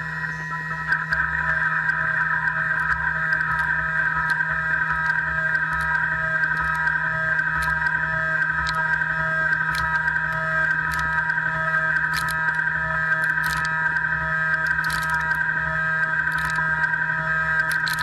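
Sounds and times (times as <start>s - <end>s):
low pulsing tone: 0.0s - 18.0s
milling machine whine: 0.0s - 18.0s.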